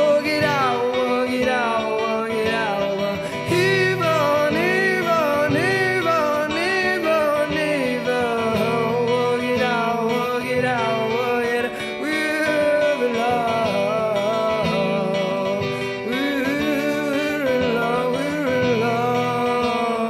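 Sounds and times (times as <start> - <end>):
guitar: 0.0 - 20.0
person singing: 0.0 - 20.0.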